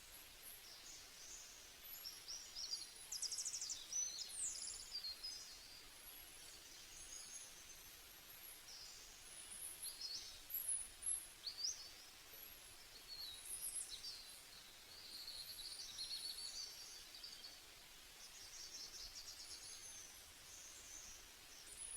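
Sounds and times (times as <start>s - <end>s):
light hiss: 0.0s - 21.9s.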